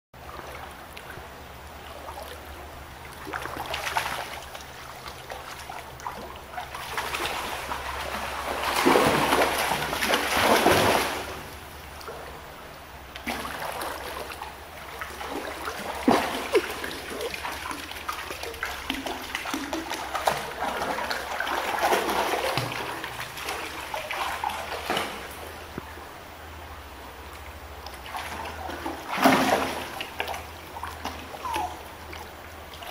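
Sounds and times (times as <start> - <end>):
dogs splashing through water: 3.0 - 12.2, 13.2 - 25.5, 28.0 - 32.9.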